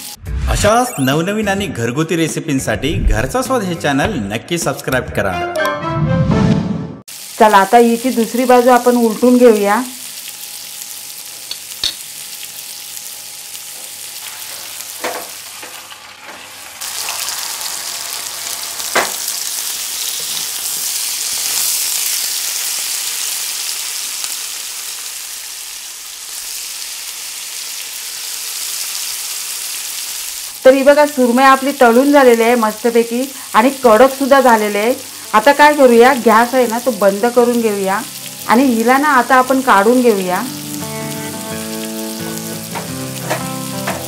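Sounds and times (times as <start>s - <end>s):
fish sizzling in oil with pops: 7.1s - 44.0s.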